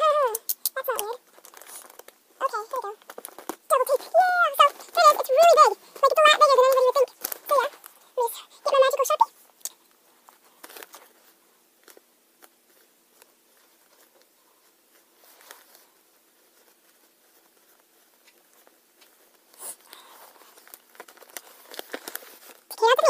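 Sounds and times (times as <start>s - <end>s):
paper rustling and crinkling: 0.8s - 8.1s, 10.2s - 23.0s.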